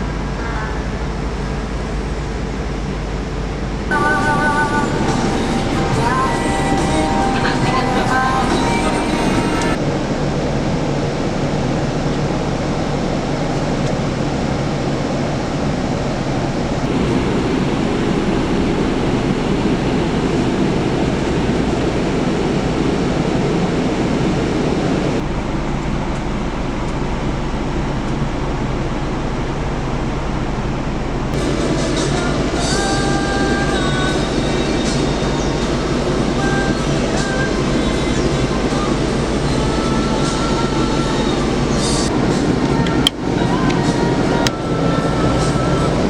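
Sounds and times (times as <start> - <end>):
coach engine hum: 0.0 - 46.0
road and wind noise: 0.0 - 46.0.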